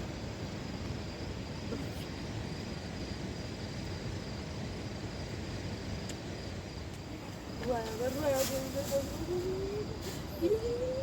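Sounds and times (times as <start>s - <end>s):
crickets trilling: 0.0s - 11.0s
low steady rushing noise: 0.0s - 11.0s.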